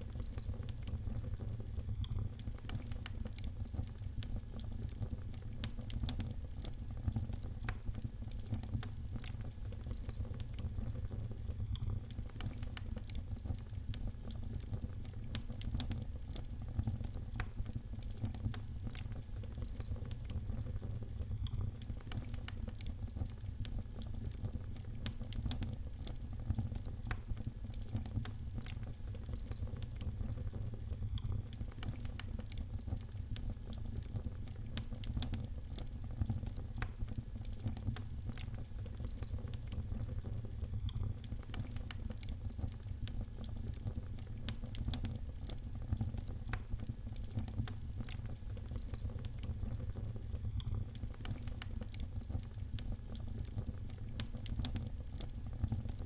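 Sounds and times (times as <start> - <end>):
wood fire crackling in fireplace: 0.0 - 56.0.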